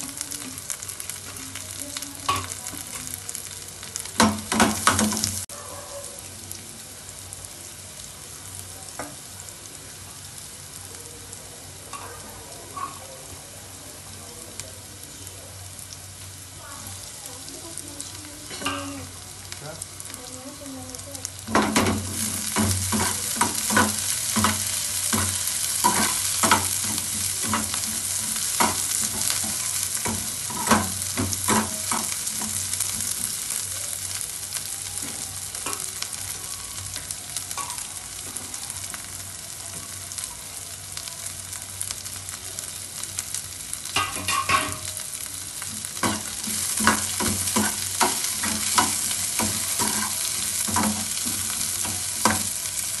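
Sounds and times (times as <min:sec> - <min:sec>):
vegetables sizzling in pan: 0:00.0 - 0:53.0.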